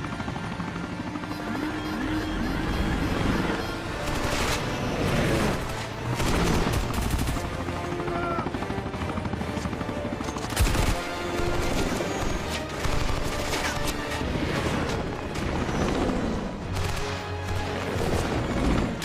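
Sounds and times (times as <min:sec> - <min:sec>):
dramatic orchestral score: 0:00.0 - 0:19.0
helicopter rotors beating: 0:00.0 - 0:19.0.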